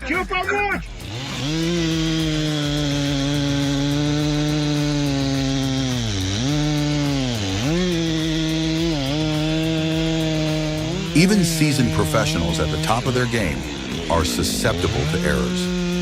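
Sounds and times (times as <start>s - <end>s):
chainsaw cutting wood: 0.6s - 16.0s.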